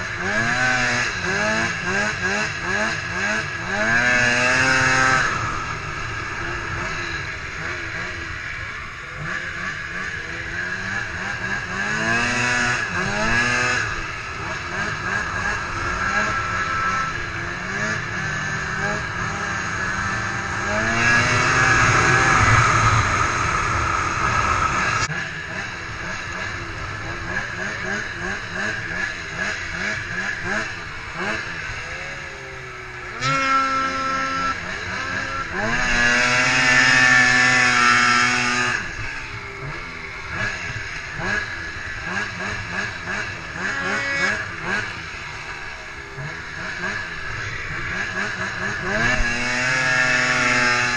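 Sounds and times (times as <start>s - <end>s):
two-stroke snowmobile engine revving: 0.0s - 50.9s.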